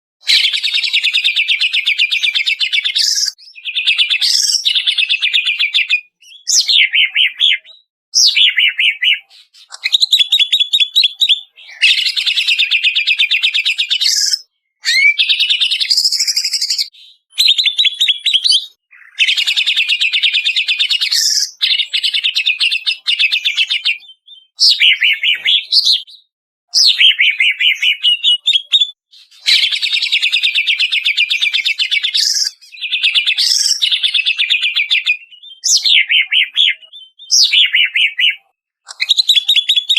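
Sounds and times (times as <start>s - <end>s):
bird singing fast trilled phrases: 0.2s - 39.9s.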